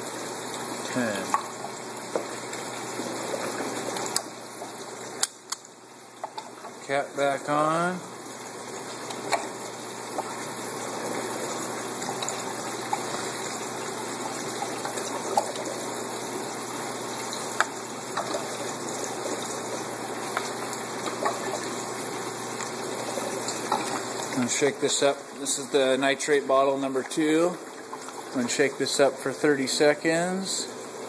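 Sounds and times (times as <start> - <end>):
running water in pipes: 0.0 - 31.0.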